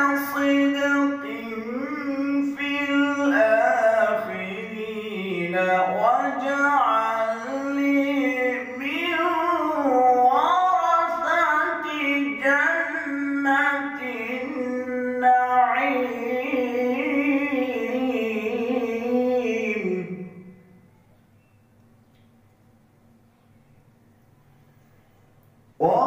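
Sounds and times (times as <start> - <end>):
man reciting melodically: 0.0 - 20.7, 25.8 - 26.0.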